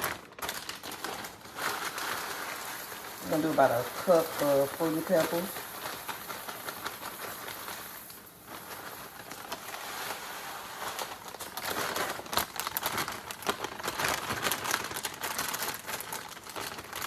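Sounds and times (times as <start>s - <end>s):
cereal bag crinkling: 0.0s - 17.0s
dry cereal rattling as poured: 0.0s - 17.0s.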